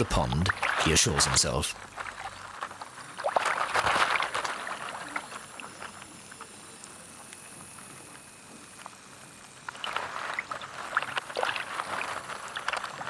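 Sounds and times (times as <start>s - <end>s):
water swishing and sloshing: 0.0s - 13.0s.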